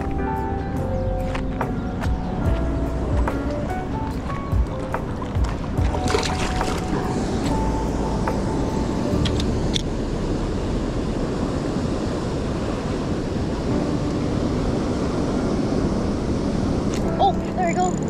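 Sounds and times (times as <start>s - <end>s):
rushing outdoor noise: 0.0s - 18.0s.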